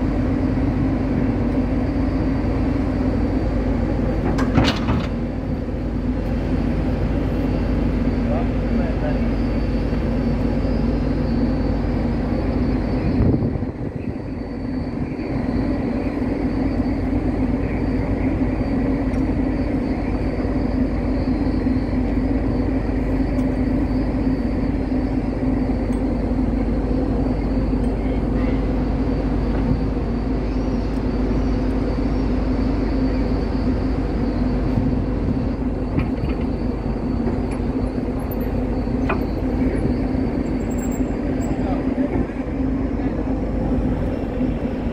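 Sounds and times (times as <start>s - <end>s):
ferry engines droning: 0.0s - 44.9s.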